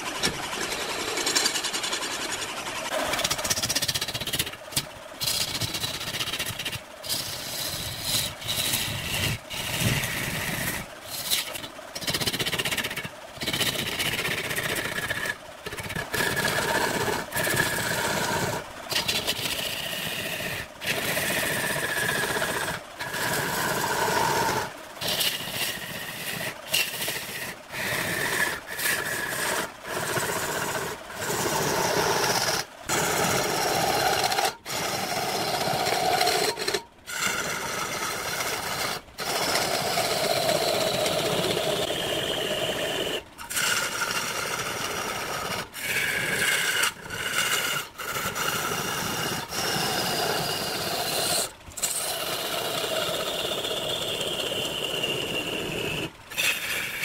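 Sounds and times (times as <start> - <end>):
turning tool shaving wood: 0.0 - 57.0
wood lathe running: 0.0 - 57.0.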